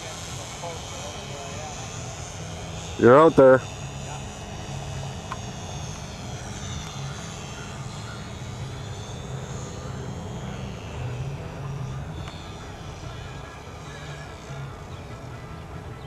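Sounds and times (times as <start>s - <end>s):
low steady hum: 0.0s - 16.0s
model airplane motor whining: 0.0s - 16.0s.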